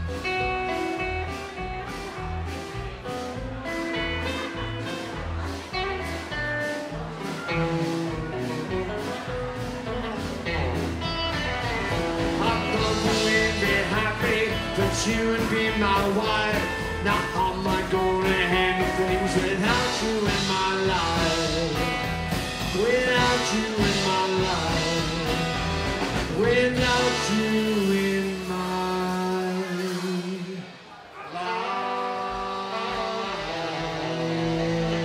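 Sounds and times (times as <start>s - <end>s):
rockabilly band playing: 0.0s - 35.0s.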